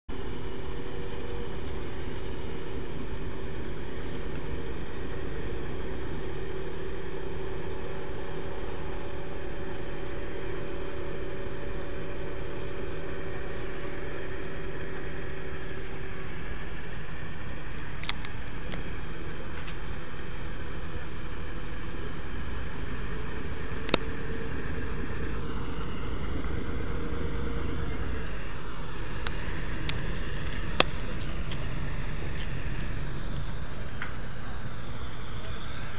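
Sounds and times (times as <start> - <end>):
ferry engines droning: 0.1 - 35.9
steady hum: 0.1 - 35.9.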